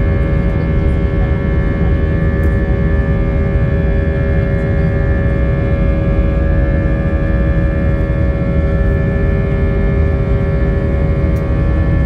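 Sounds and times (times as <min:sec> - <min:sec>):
airliner engine drone: 0:00.0 - 0:12.0.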